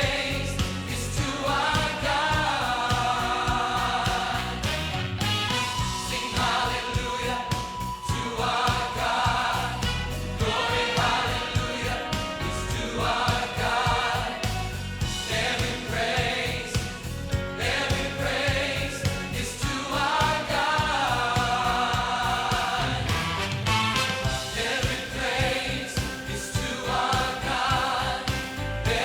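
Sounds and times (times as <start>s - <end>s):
choir singing with accompaniment: 0.0s - 29.0s.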